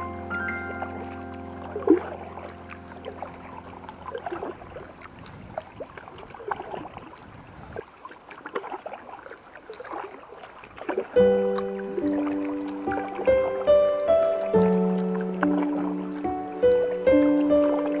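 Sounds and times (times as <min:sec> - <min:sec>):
kayak paddle splashing water: 0:00.0 - 0:18.0.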